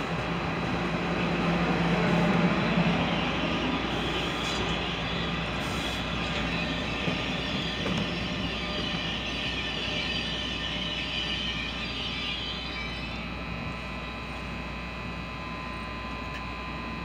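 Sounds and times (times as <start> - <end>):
train wheels rumbling on rails: 0.0 - 14.1.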